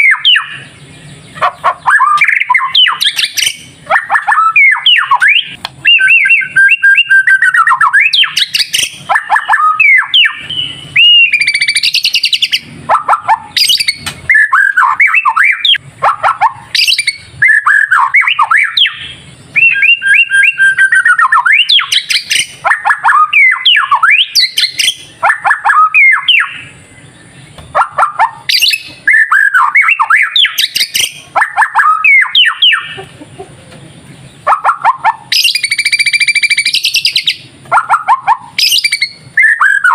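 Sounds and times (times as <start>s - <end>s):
bird singing whistles and chatter: 0.0s - 33.0s, 34.2s - 39.9s.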